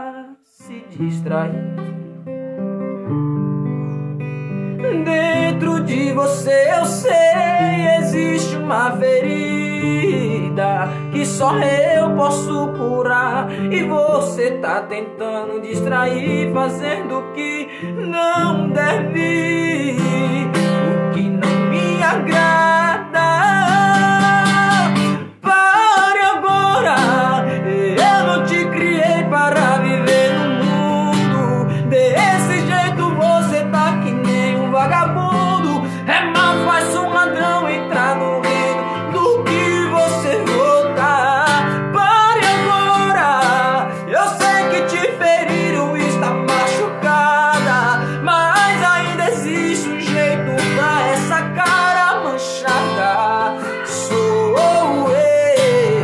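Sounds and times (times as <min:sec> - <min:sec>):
man singing: 0:00.0 - 0:02.4, 0:04.6 - 0:56.0
strummed acoustic guitar: 0:00.6 - 0:56.0.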